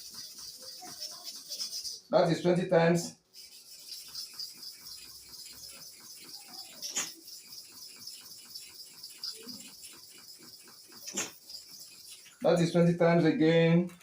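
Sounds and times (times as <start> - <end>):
blade scraping on sharpening stone: 0.0 - 2.1, 3.3 - 12.8.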